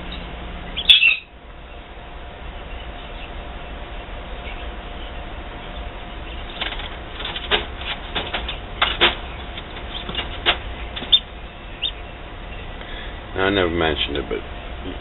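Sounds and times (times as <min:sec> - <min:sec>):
chicks peeping: 0:00.0 - 0:15.0
incubator humming: 0:00.0 - 0:15.0.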